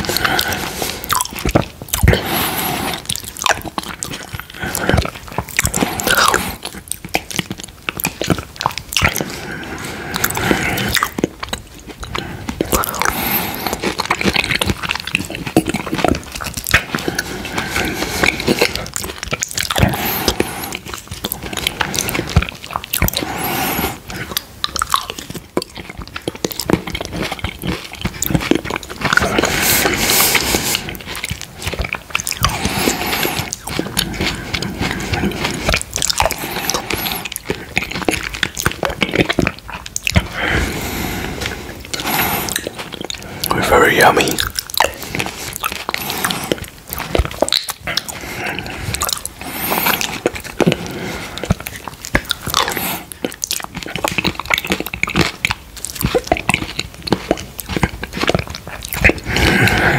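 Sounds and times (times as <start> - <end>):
man chewing with wet mouth smacks: 0.0 - 59.9.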